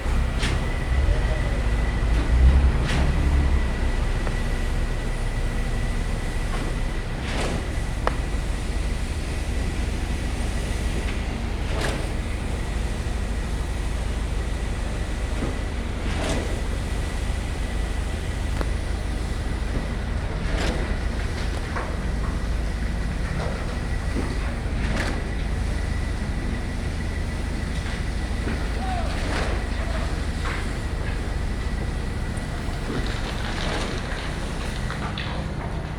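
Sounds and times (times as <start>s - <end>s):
diesel engines running: 0.0s - 35.9s.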